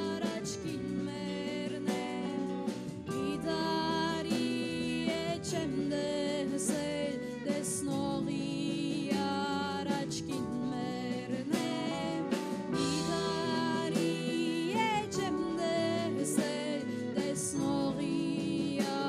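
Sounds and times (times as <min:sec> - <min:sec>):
drum kit with cymbals: 0:00.0 - 0:19.0
electric guitar: 0:00.0 - 0:19.0
keyboard: 0:00.0 - 0:19.0.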